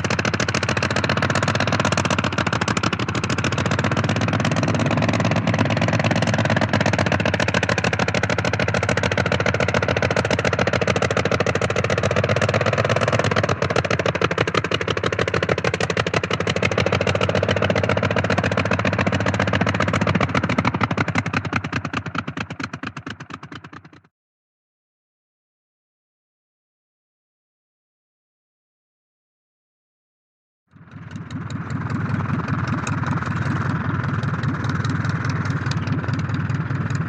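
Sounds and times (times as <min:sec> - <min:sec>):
propeller plane engine running: 0:00.0 - 0:24.1, 0:30.7 - 0:37.0.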